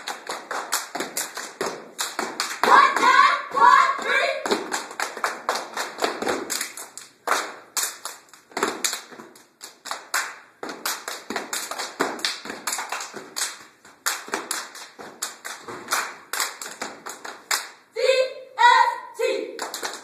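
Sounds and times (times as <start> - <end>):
hand claps: 0.0 - 3.2, 4.4 - 17.8, 19.6 - 20.0.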